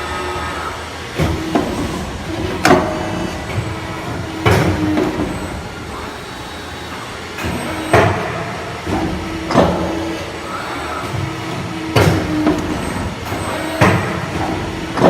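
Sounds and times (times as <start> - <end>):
machine tone cutting in and out: 0.0 - 15.0
pipe bending machine humming: 0.0 - 15.0
sharp mechanical clunks: 1.2 - 6.1, 6.9 - 15.0.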